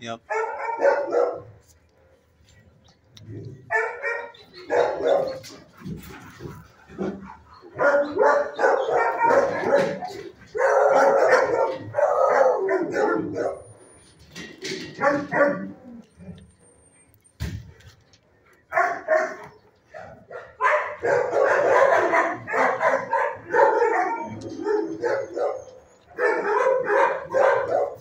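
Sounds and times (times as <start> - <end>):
dogs barking: 0.2 - 2.2, 3.5 - 13.8, 14.8 - 16.1, 18.5 - 28.0.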